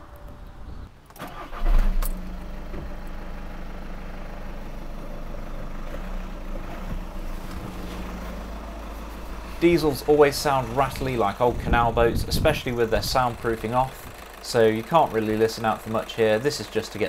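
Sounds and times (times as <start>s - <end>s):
diesel engine starting and idling: 0.0s - 17.0s.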